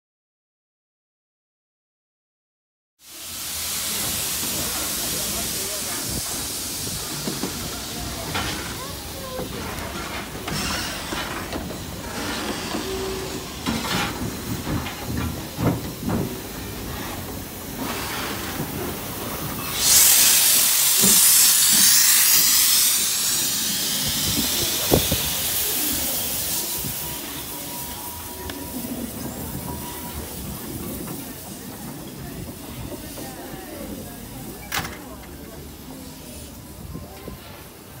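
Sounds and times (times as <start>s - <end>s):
loud hiss of steam: 3.0s - 38.0s
steam locomotive clanking: 3.1s - 38.0s.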